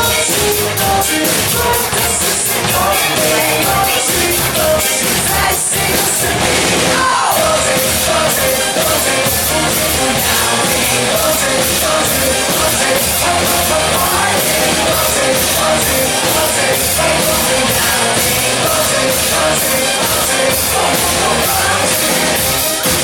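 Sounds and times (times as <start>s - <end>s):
drum kit beat: 0.0s - 23.0s
rock song with singing: 0.0s - 23.0s.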